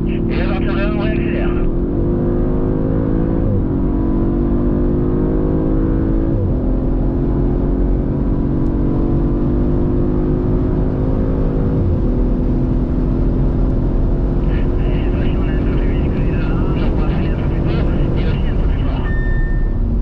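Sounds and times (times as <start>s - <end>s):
car engine accelerating through gears: 0.0s - 20.0s.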